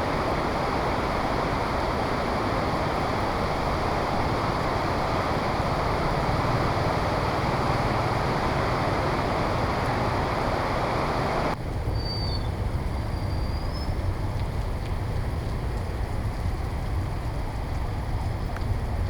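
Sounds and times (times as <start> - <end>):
heavy rain and wind: 0.0 - 19.0.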